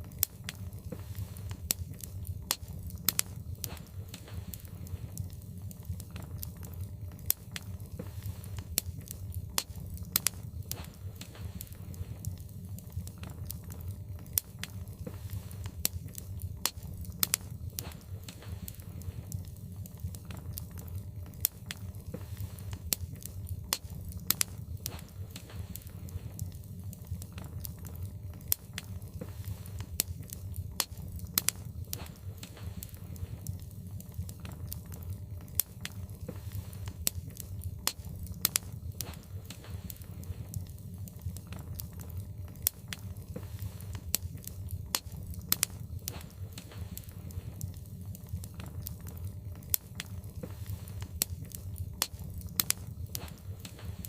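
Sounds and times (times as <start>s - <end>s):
low fire rumble: 0.0s - 54.0s
wood fire crackling and popping: 0.0s - 54.0s.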